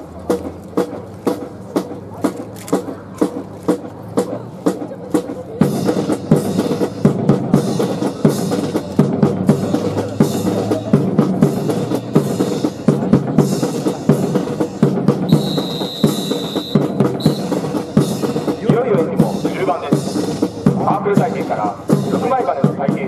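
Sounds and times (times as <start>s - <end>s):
bass drum and snare beat: 0.1s - 23.0s
military band playing a march: 0.2s - 23.0s.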